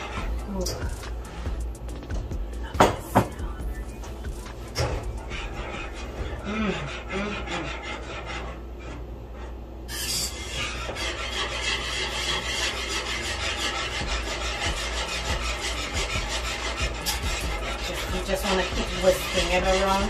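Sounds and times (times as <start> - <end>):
spoon stirring and scraping pot: 0.0 - 20.0.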